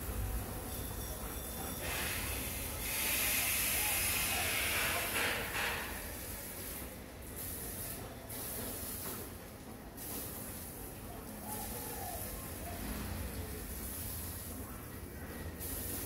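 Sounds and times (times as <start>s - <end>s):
garden hose spraying on stone: 1.8s - 16.0s.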